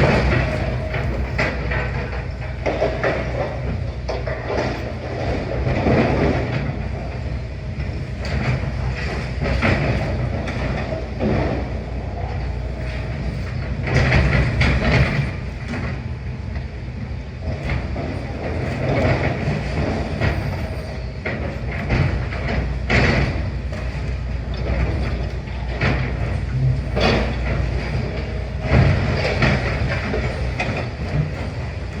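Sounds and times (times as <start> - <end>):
excavator engine rumble: 0.0 - 32.0
metal and rubble clanking: 0.0 - 32.0.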